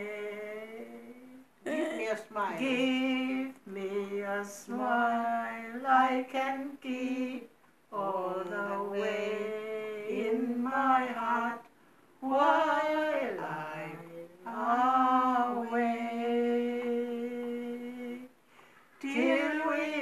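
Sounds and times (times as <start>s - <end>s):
woman singing unaccompanied: 0.0s - 18.4s, 19.0s - 20.0s.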